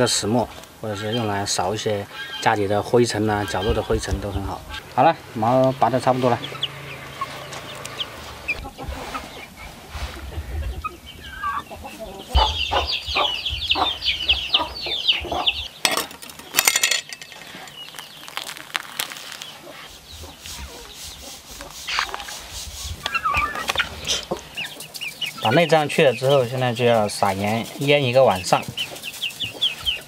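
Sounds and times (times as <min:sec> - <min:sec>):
hens cackling: 0:00.0 - 0:15.8, 0:17.5 - 0:30.0
hens clucking: 0:00.0 - 0:16.5, 0:17.1 - 0:30.0.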